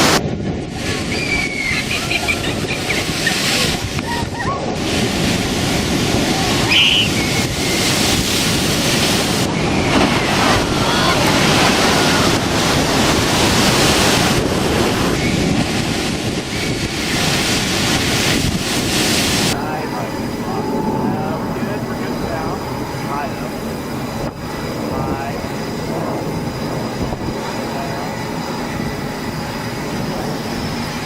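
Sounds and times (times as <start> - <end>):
waves crashing: 0.0 - 31.0
wind buffeting microphone: 0.0 - 31.0.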